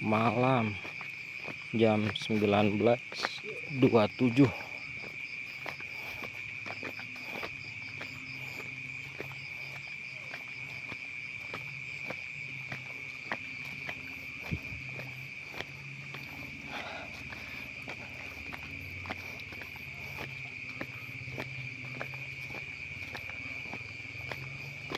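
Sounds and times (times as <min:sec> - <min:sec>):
crickets trilling: 0:00.0 - 0:24.9.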